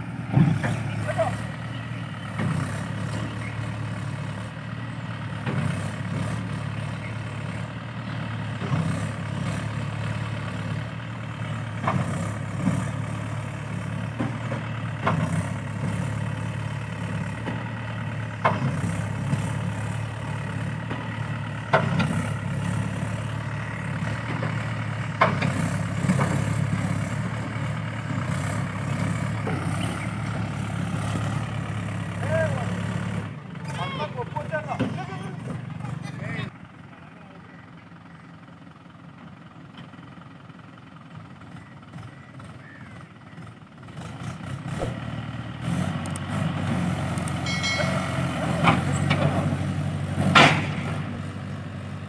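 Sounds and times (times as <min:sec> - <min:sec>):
heavy engine idling: 0:00.0 - 0:52.0.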